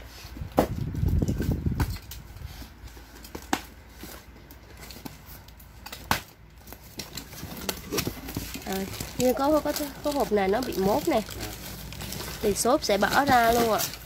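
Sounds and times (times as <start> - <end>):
cardboard carton rustling: 0.0 - 14.0.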